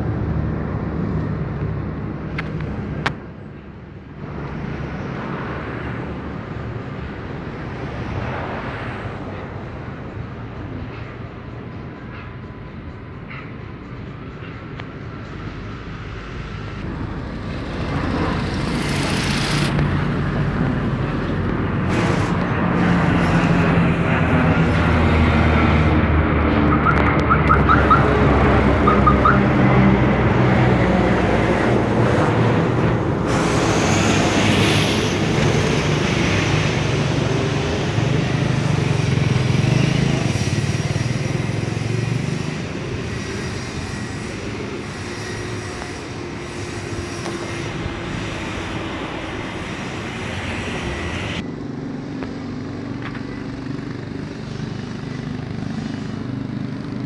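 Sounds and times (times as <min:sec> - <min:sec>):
propeller plane flying overhead: 0:00.0 - 0:57.0.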